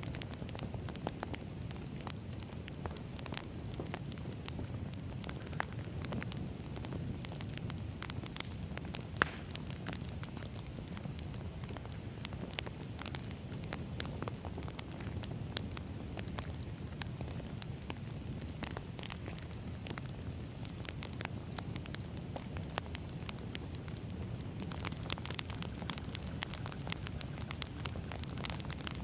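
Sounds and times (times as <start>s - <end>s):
firewood crackling and popping: 0.0s - 29.0s.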